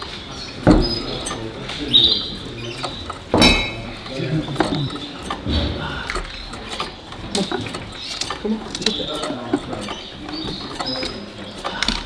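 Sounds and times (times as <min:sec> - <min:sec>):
canaries chirping: 0:00.0 - 0:12.0
murmured voices: 0:00.0 - 0:12.0
small clicks and clinks: 0:00.0 - 0:12.0.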